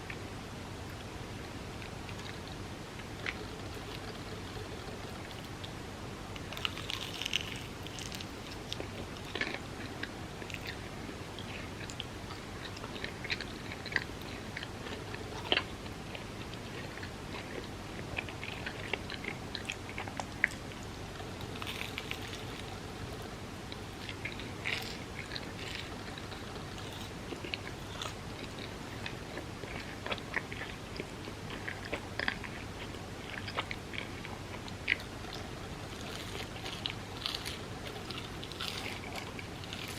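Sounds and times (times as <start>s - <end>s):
person chewing and biting: 6.4s - 39.9s.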